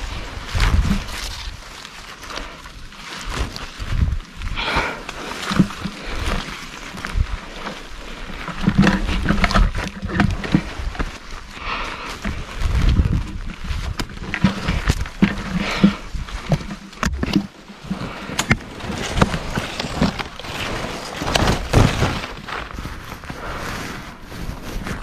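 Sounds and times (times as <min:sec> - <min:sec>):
rustling: 0:00.0 - 0:25.0
gloved hands scraping tree bark: 0:04.6 - 0:25.0.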